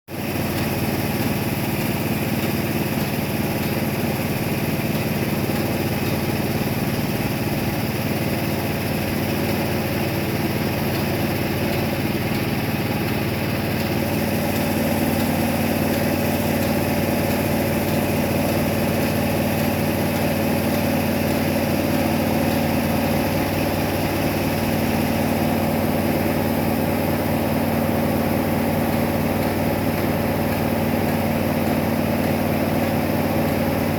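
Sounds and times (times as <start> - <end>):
pressure washer engine running: 0.1 - 33.9.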